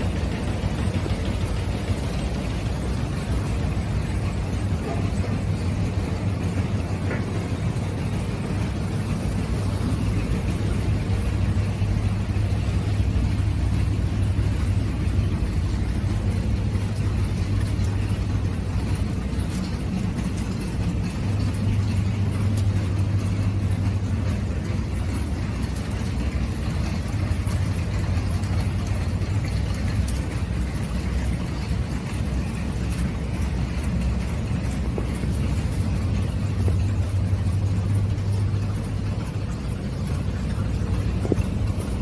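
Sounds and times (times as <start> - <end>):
machinery motor humming: 0.0 - 42.0.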